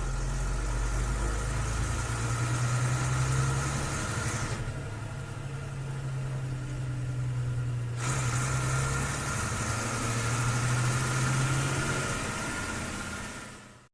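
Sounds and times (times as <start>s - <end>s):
engine-like hum: 0.0s - 13.9s.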